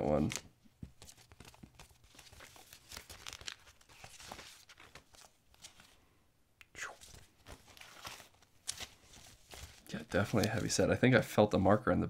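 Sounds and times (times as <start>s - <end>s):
paper stickers rustling and scraping: 0.2s - 6.0s, 7.0s - 11.2s.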